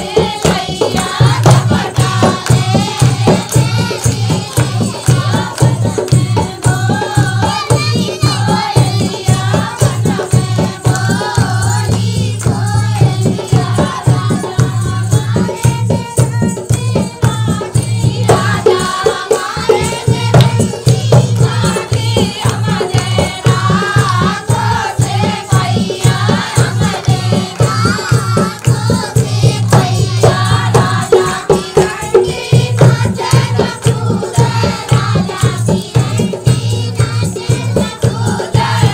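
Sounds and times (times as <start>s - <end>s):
fast jingling percussion beat: 0.0s - 38.9s.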